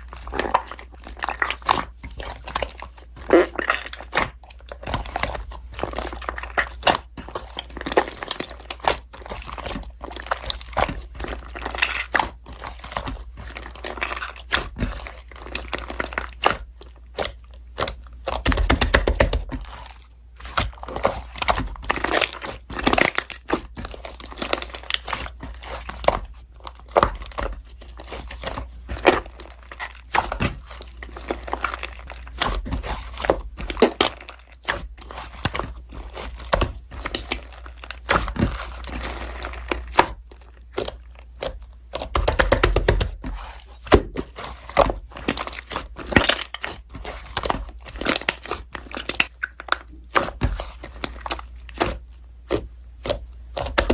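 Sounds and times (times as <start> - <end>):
slime squelching and crackling: 0.0 - 53.9.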